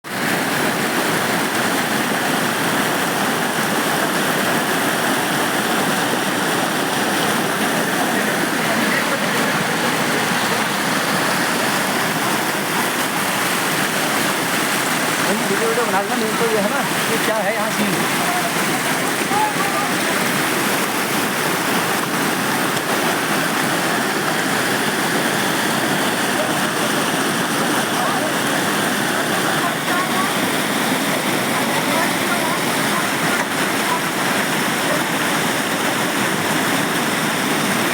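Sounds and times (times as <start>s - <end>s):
floodwater rushing: 0.0s - 37.9s.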